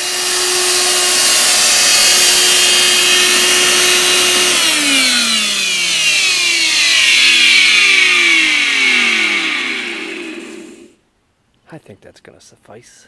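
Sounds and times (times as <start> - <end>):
shop vacuum motor whining: 0.0 - 11.0.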